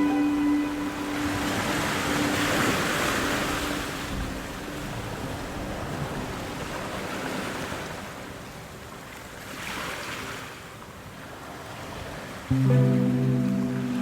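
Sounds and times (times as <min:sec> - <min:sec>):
ocean waves washing in surf: 0:00.0 - 0:14.0.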